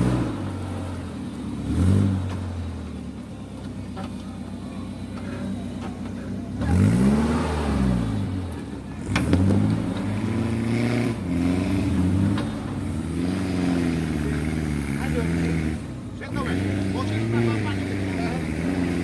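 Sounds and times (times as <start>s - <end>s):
engine revving: 0.0s - 3.0s, 4.9s - 19.0s.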